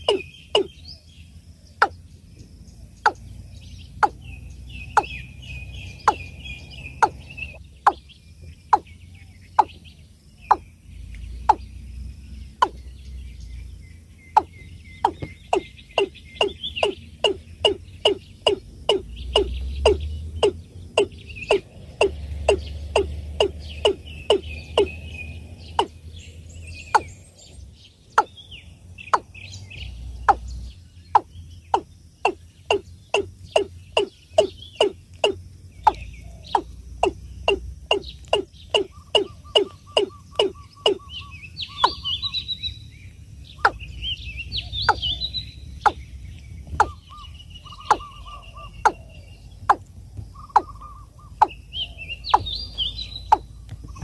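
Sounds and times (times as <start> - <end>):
bird calling in sharp hollow notes: 0.0 - 1.1, 1.7 - 2.1, 3.0 - 3.3, 3.9 - 11.9, 12.5 - 26.0, 26.8 - 27.2, 28.0 - 29.4, 30.2 - 42.9, 43.5 - 54.0
small birds twittering: 0.0 - 54.0.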